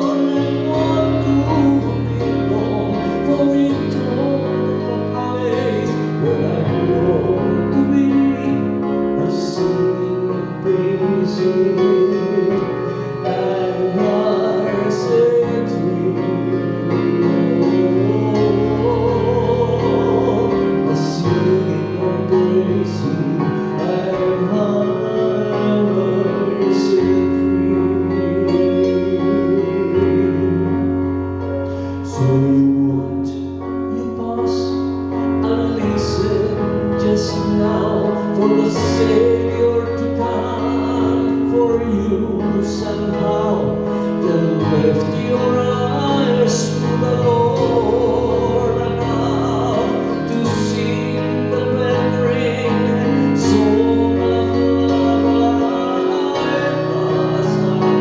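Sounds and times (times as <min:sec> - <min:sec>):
bass line: 0:00.0 - 0:33.2, 0:35.4 - 0:58.0
held keyboard chords: 0:00.0 - 0:58.0.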